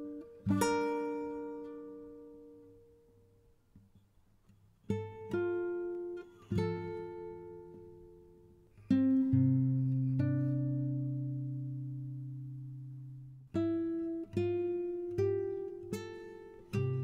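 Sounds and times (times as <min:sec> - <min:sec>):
acoustic guitar plucked chords: 0:00.0 - 0:03.4, 0:04.9 - 0:17.0.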